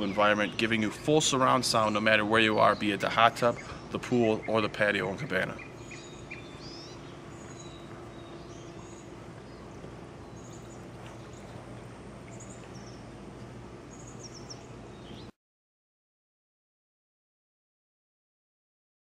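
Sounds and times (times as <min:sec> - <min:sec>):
small birds chirping: 0:00.0 - 0:15.3
steady low hum: 0:00.0 - 0:15.4.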